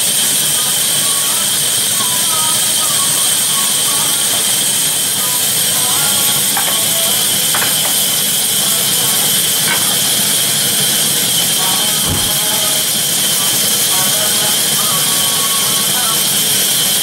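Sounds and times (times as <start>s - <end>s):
band saw hissing: 0.0s - 17.0s.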